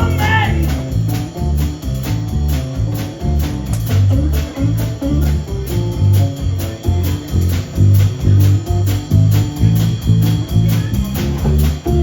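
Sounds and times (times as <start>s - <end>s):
guitar: 0.0s - 12.0s
rhythmic bass line: 0.0s - 12.0s.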